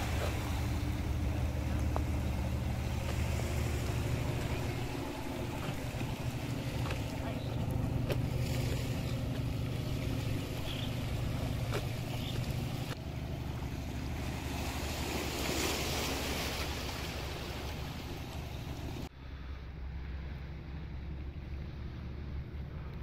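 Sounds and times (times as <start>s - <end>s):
ferry engine low hum: 0.0s - 23.0s
water rushing along hull: 0.0s - 23.0s.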